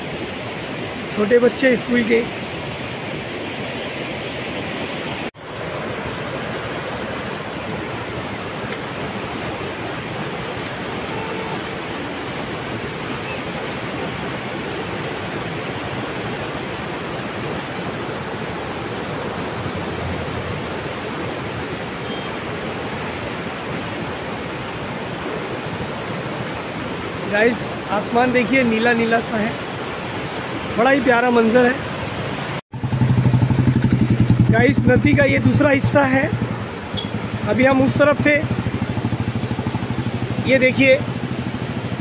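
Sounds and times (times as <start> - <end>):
river water rushing over rocks: 0.0 - 42.0.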